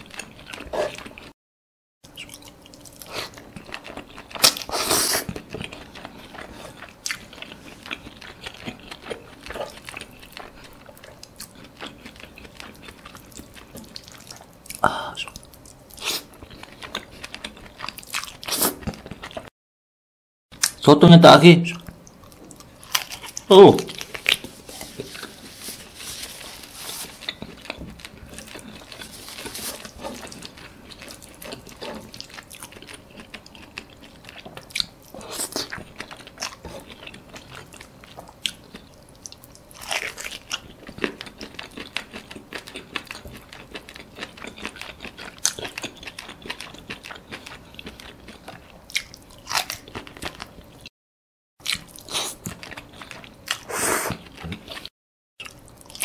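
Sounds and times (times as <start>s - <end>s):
man chewing food: 0.0s - 1.4s, 2.1s - 19.5s, 21.8s - 50.9s, 51.6s - 56.0s.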